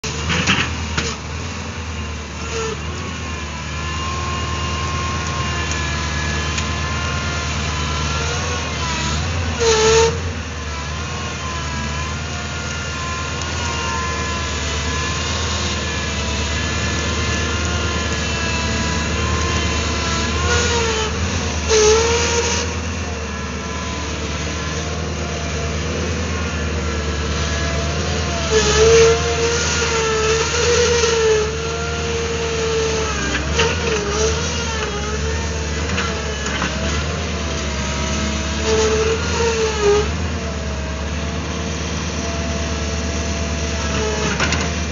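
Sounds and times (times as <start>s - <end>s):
high wavering engine whine: 0.0s - 44.9s
loader engine running: 0.0s - 44.9s.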